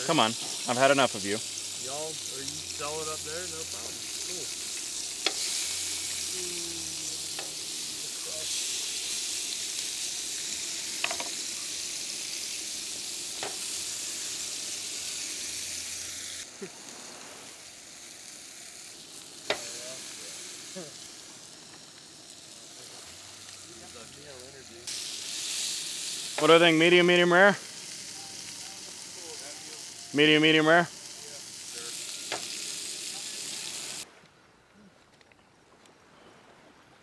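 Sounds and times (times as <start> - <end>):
steaks sizzling on a griddle: 0.0 - 34.1.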